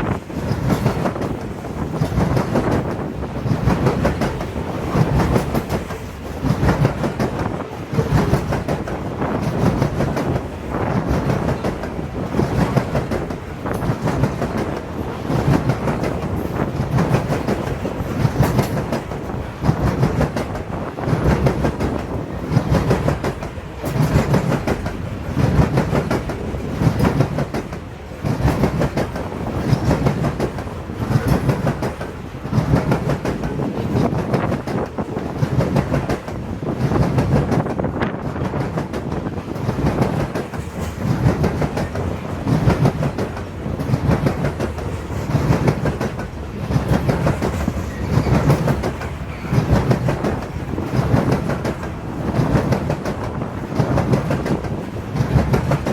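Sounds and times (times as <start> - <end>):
train wheels clattering over rails: 0.0 - 55.9.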